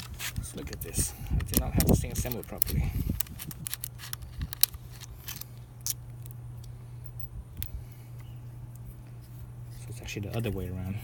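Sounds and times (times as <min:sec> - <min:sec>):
clicks and rattles of handled parts: 0:00.0 - 0:10.7
low background hum: 0:00.0 - 0:11.0.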